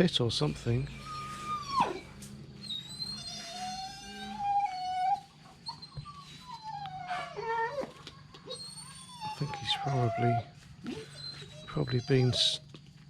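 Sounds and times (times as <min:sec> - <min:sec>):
dog whining: 0:00.8 - 0:12.7.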